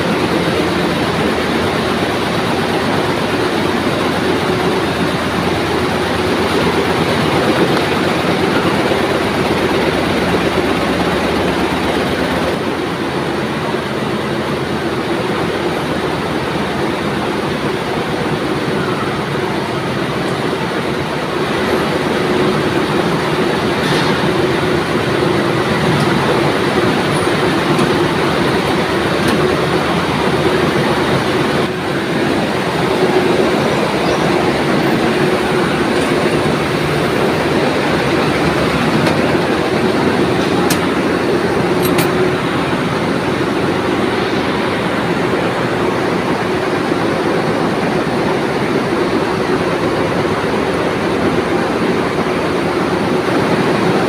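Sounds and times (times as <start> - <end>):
machine clatter: 0.0 - 18.9, 19.5 - 54.0
constant machine hum: 0.0 - 54.0.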